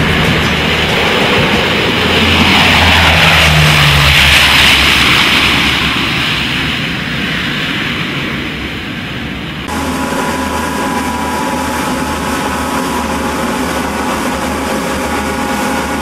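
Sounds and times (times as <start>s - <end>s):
turboprop plane passing low: 0.0s - 16.0s.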